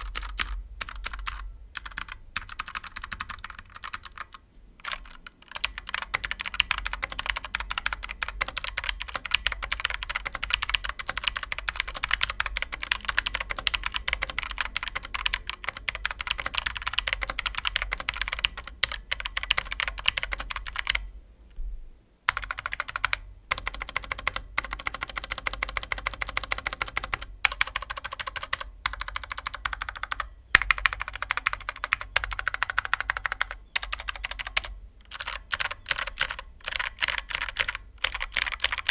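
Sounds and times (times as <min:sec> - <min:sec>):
mechanical keyboard typing: 0:00.0 - 0:21.1, 0:22.3 - 0:38.9.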